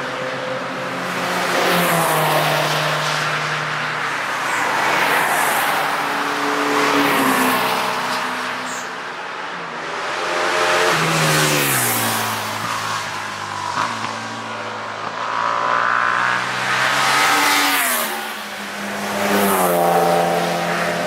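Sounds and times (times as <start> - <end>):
race cars passing: 0.0 - 21.0.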